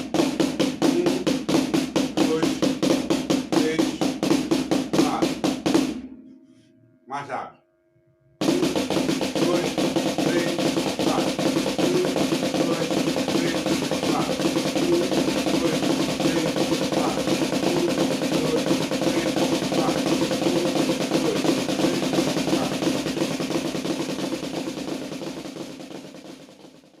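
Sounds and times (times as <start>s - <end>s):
snare drum roll: 0.0s - 6.1s, 8.4s - 27.0s.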